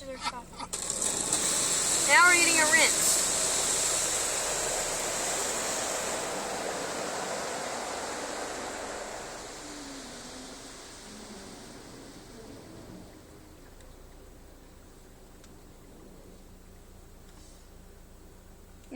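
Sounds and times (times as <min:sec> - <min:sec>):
car wash water spraying: 0:00.4 - 0:18.9.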